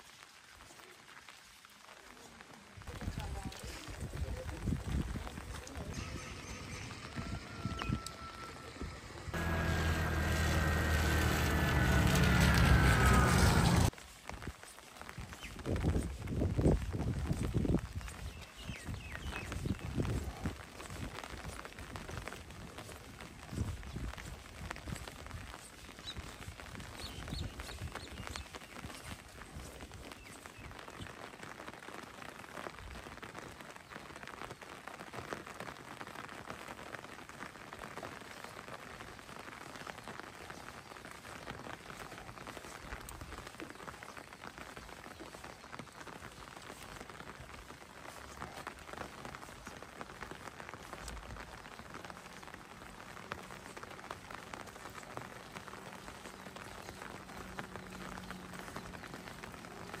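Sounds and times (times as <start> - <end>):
rain falling: 0.0 - 60.0.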